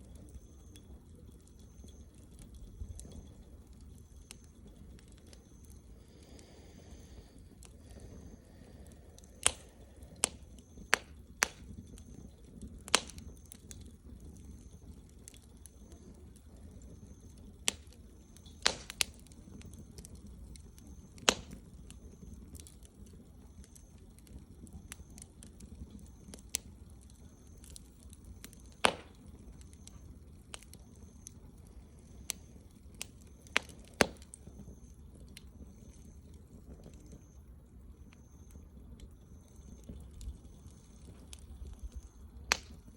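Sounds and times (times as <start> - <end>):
low steady rumble: 0.0 - 42.9
wood fire crackling: 0.0 - 42.9.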